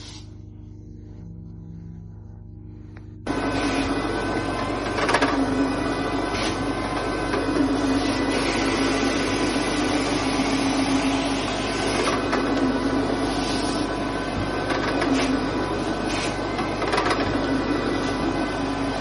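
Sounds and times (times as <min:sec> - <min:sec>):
carpet cleaning machine whirring: 0:03.2 - 0:19.0.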